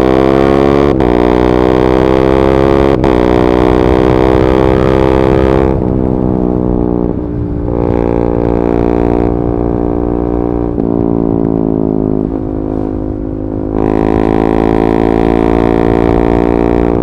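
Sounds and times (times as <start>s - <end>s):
loud motorcycle engine running: 0.0s - 17.0s.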